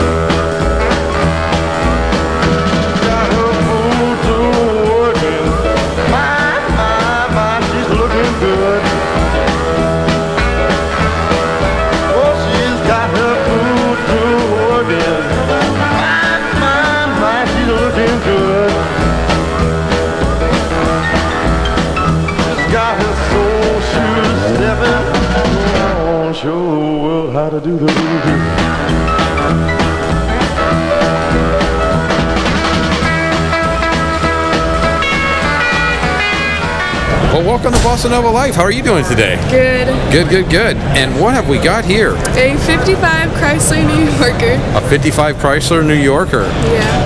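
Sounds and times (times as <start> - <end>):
rock music with singing: 0.0 - 44.9, 46.5 - 47.0.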